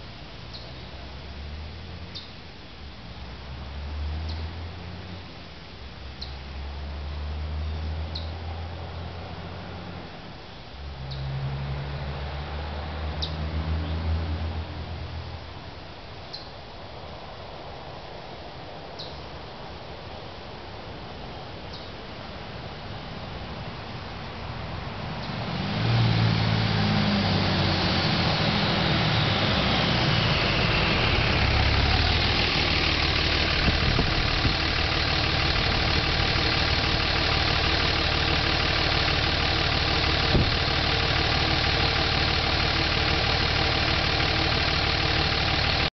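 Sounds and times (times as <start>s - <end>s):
diesel truck engine: 2.8s - 18.0s, 20.9s - 45.9s.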